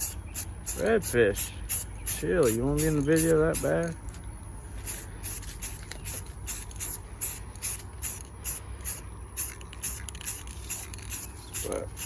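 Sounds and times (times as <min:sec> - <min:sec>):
aerosol spray hissing bursts: 0:00.0 - 0:03.7, 0:04.9 - 0:12.0.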